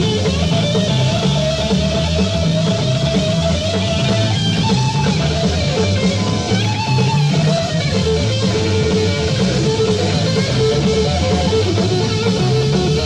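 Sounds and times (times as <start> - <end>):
bass line: 0.0 - 13.0
electric guitar lead lines: 0.0 - 13.0.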